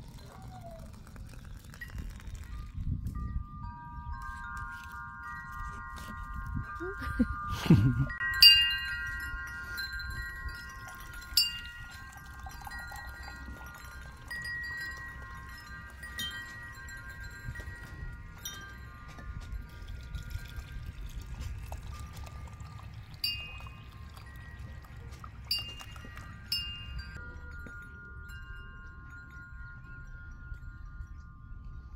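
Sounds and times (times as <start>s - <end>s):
wind chimes ringing: 0.0s - 31.9s.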